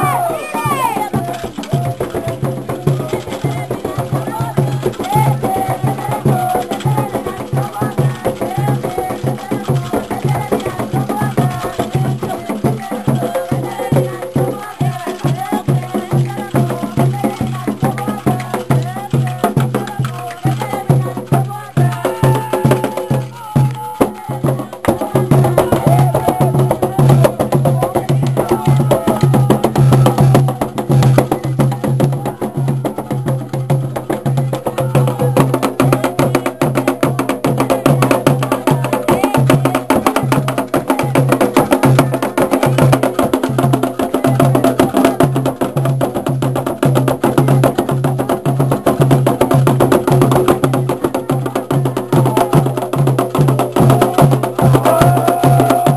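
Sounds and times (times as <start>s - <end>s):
group singing a chant: 0.0s - 55.9s
hand drums beating: 0.0s - 55.9s.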